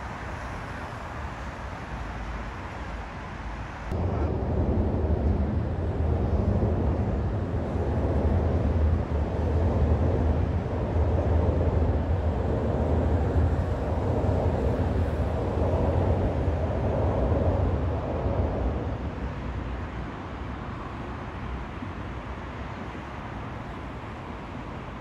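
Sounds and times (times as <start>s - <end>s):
train rumbling on viaduct: 0.0s - 25.0s.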